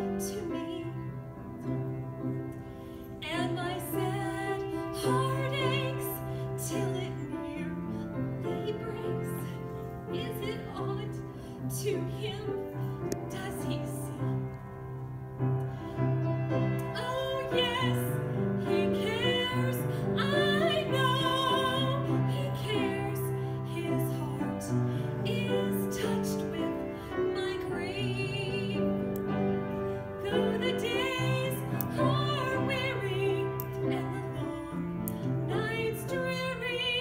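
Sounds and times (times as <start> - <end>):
woman singing a hymn: 0.0 - 1.7, 3.2 - 14.6, 16.6 - 37.0
piano: 0.0 - 37.0.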